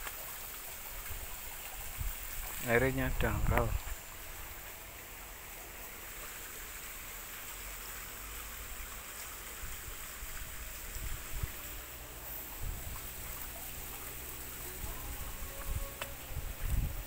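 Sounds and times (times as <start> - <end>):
water running in stream: 0.0 - 17.0.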